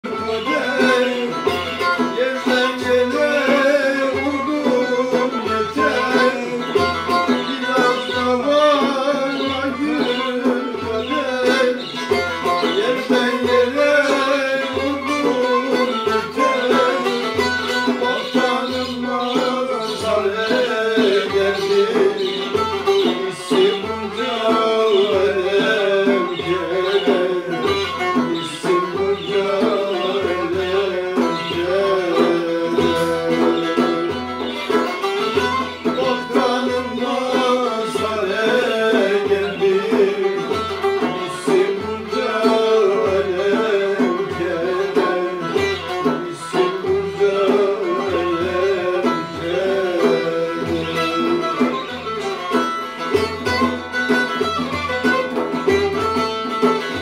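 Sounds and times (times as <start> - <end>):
man singing: 0.0 - 55.4
frame drum beat: 0.0 - 57.0
long-necked lute playing folk tune: 0.0 - 57.0.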